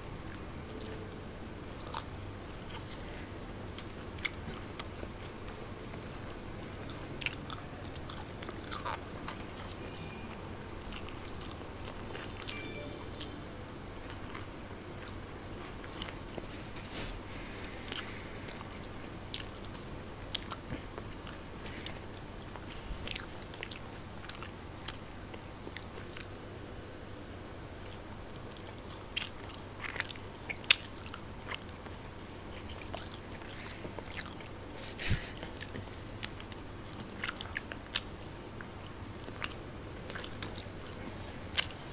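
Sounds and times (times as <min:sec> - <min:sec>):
people chewing snack food: 0:00.0 - 0:13.4, 0:14.0 - 0:26.7, 0:27.6 - 0:41.9.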